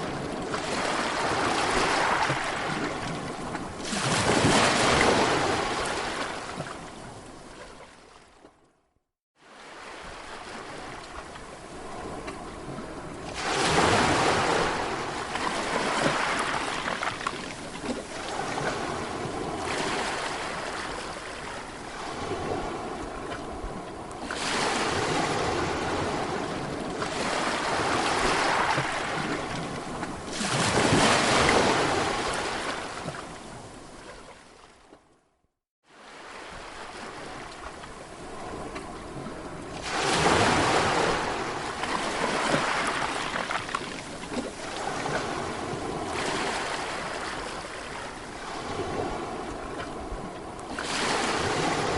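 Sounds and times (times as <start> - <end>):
sea waves washing in: 0.0 - 8.2, 9.4 - 34.8, 35.8 - 51.9.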